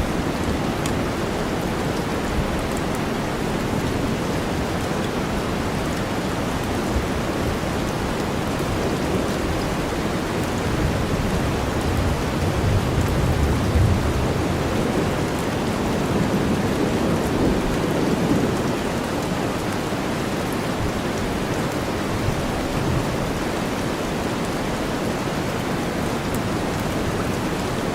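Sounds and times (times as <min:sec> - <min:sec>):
dense rainfall: 0:00.0 - 0:27.9.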